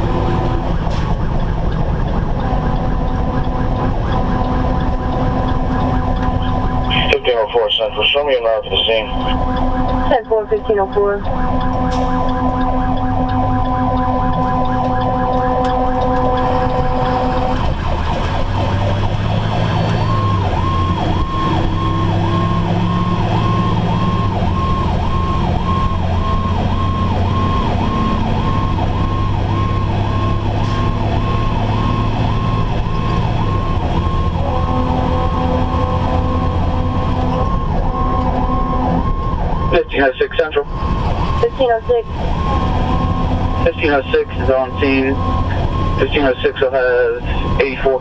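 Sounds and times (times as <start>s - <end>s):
diesel engine drone: 0.0s - 48.0s
fire engine siren wailing: 0.0s - 48.0s.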